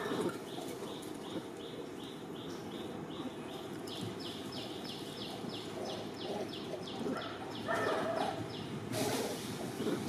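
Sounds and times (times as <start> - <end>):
background noise: 0.0 - 10.0.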